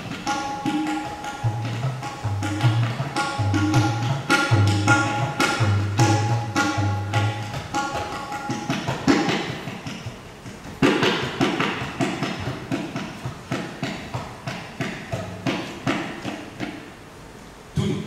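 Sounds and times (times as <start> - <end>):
tabla treble drum strokes: 0.0 - 17.2.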